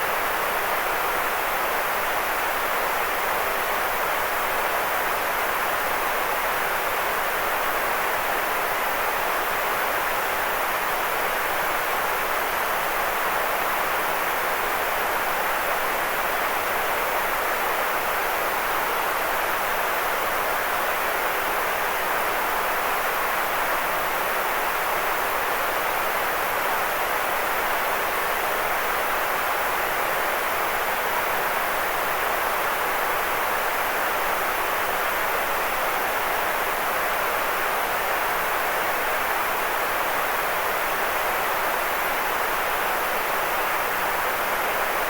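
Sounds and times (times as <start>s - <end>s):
steady white noise hiss: 0.0s - 45.0s.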